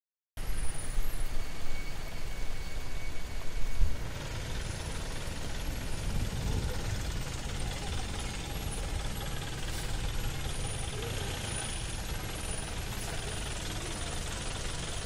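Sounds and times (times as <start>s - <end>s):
jeep engine low rumble: 0.5s - 15.0s.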